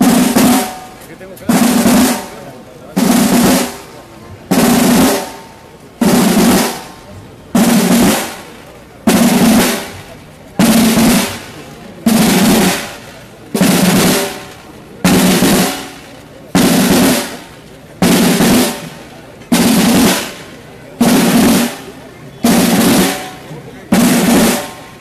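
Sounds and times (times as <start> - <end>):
snare and bass drums playing: 0.0 - 25.0.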